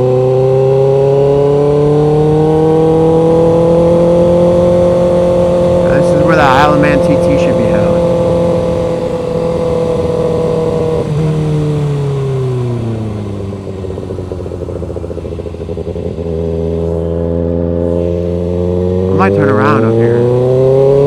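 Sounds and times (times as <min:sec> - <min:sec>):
motorcycle engine: 0:00.0 - 0:21.0.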